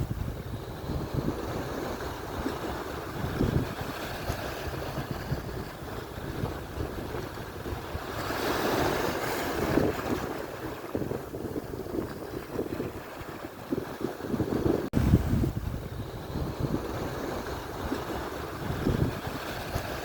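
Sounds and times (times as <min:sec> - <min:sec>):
surf washing onto shore: 0:00.0 - 0:20.0
wind buffeting microphone: 0:00.0 - 0:20.0.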